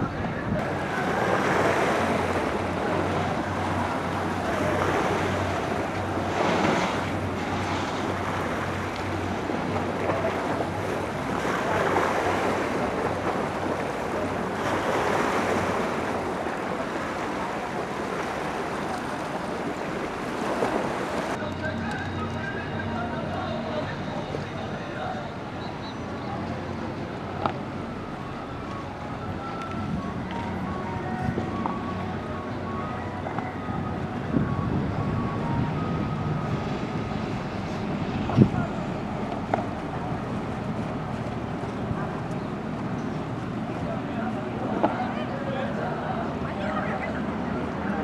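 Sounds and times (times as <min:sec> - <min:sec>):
wind gusting on microphone: 0:00.0 - 0:21.4, 0:27.0 - 0:45.2
boat engine idling: 0:00.0 - 0:48.0
water noise: 0:00.0 - 0:48.0.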